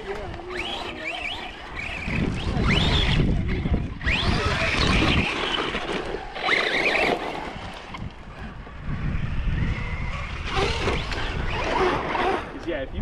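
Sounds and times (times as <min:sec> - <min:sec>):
electric motor whining: 0:00.0 - 0:13.0
wind buffeting microphone: 0:00.0 - 0:13.0.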